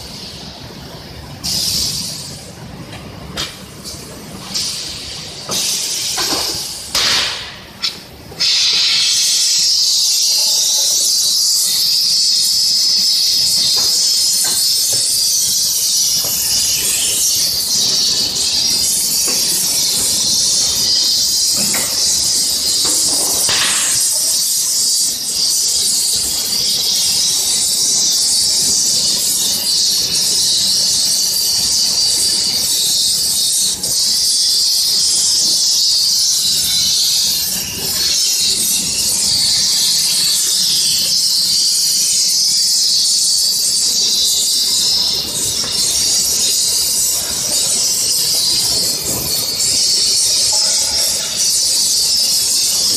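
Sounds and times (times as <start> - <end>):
gas welding torch hissing: 0.0 - 52.9.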